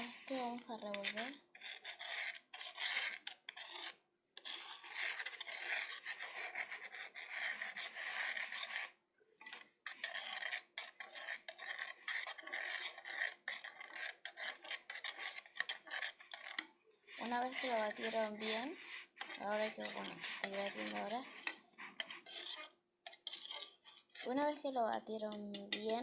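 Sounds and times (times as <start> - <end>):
utensil scraping inside a container: 0.0 - 26.0.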